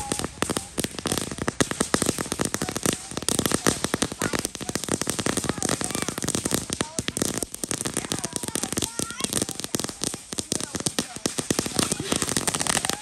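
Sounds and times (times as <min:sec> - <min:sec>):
firework fountain crackling: 0:00.0 - 0:13.0.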